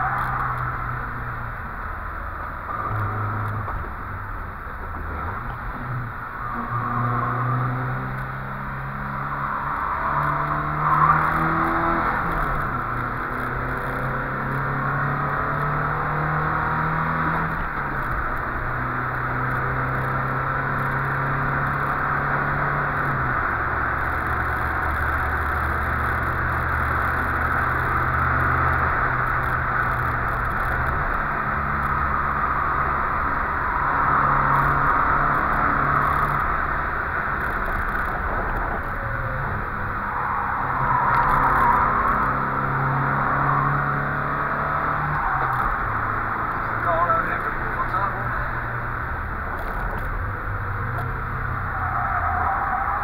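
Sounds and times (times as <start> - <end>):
car engine running under load: 0.0 - 53.0
road and wind noise: 0.0 - 53.0.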